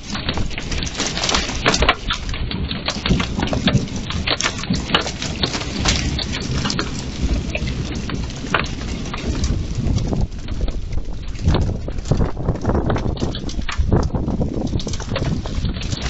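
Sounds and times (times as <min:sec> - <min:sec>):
hailstones knocking on wood: 0:00.0 - 0:16.0
rain on wooden deck: 0:00.0 - 0:16.0.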